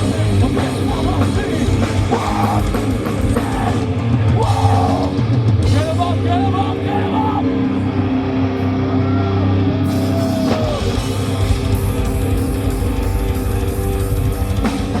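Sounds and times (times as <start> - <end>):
bending lead guitar: 0.0 - 15.0
distorted guitar chords: 0.0 - 15.0.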